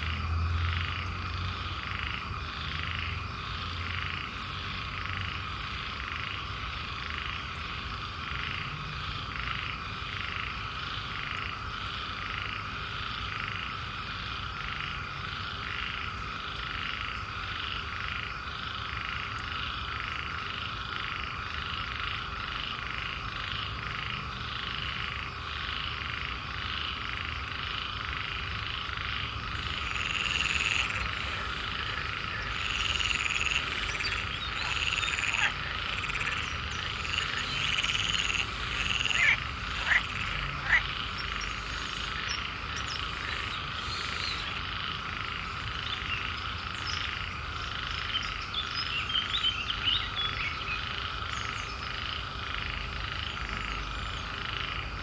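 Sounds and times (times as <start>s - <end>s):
dense chorus of frogs calling: 0.0s - 55.0s
loud frog croaking calls: 0.0s - 55.0s.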